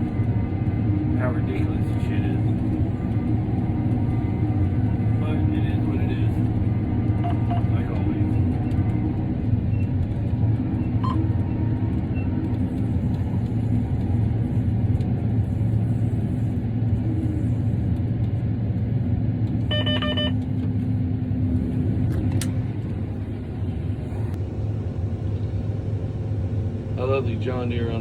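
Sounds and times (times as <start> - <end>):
combine harvester rumbling: 0.0 - 28.0.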